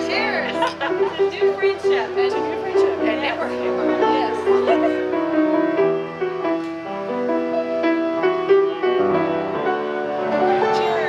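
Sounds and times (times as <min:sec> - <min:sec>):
grand piano melody over chords: 0:00.0 - 0:11.0.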